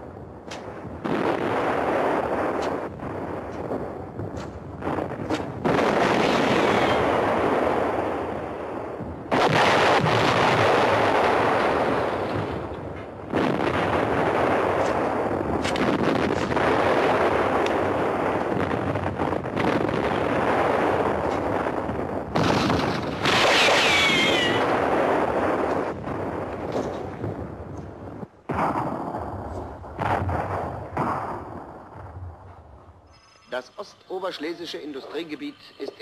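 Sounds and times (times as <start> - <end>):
heavy explosion blasts: 0.0 - 32.5.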